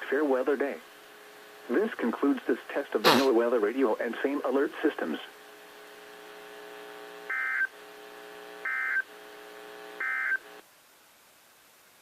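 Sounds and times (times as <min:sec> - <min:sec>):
radio hum: 0:00.0 - 0:10.6.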